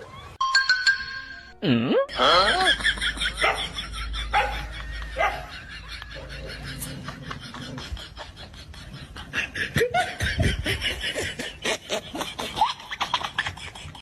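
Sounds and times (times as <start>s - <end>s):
people laughing: 2.1s - 14.0s.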